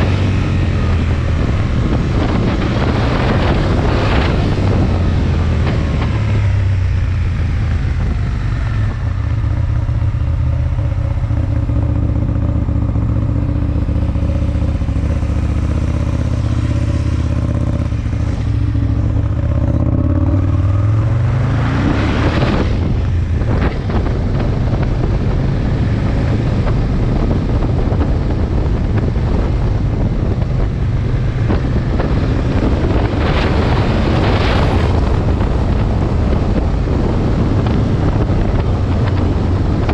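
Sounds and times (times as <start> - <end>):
motorcycle engine revving: 0.0 - 39.9
wind rushing over microphone: 0.0 - 39.9.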